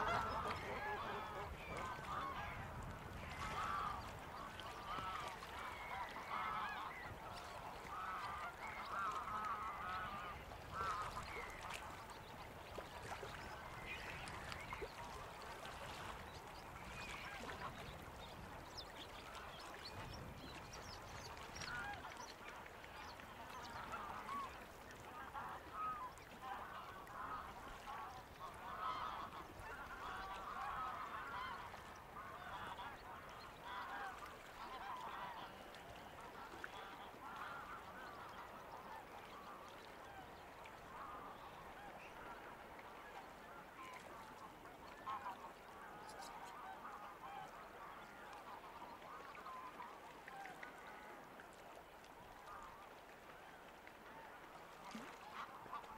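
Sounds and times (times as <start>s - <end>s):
waterfowl calling: 0.0s - 51.5s, 54.1s - 55.9s.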